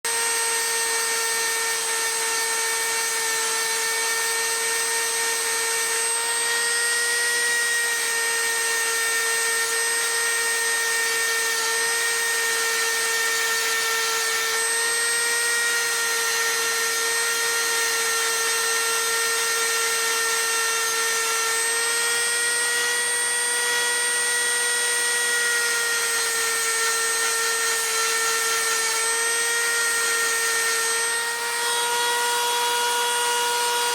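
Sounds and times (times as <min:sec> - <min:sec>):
electric motor whining: 0:00.1 - 0:33.9.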